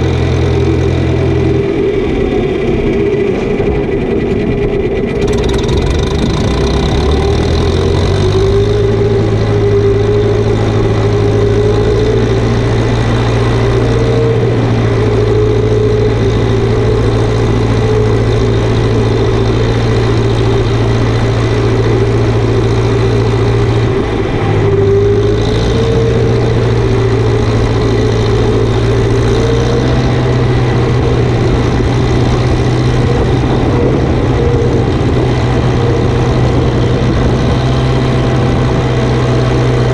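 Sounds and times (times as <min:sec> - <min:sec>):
farm vehicle engine running: 0:00.0 - 0:39.9.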